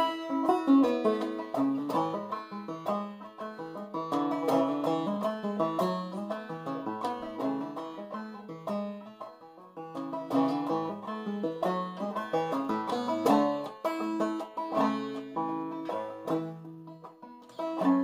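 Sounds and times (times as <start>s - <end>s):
banjo played clawhammer style: 0.0s - 18.0s.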